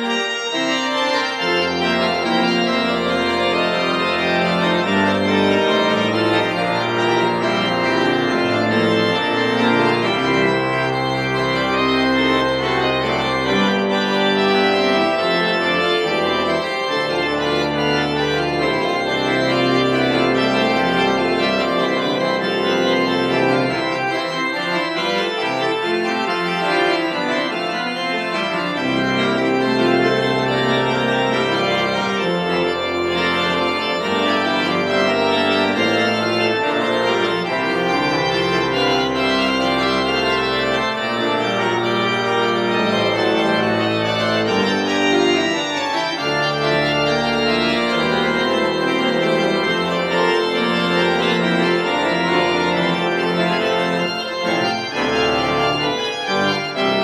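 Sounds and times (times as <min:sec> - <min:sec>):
church organ playing: 0:00.0 - 0:57.0.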